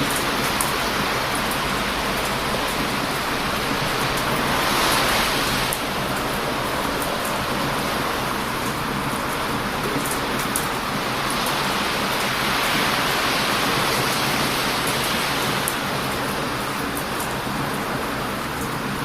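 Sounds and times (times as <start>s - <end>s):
surf breaking on beach: 0.0s - 18.4s
wood fire crackling: 0.0s - 19.0s.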